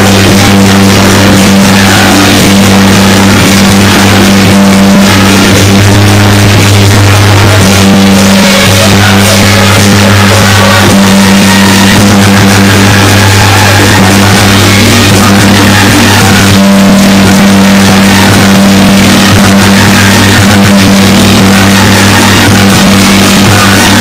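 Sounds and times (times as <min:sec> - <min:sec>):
heavily distorted music: 0:00.0 - 0:24.0
steady low drone: 0:00.0 - 0:24.0.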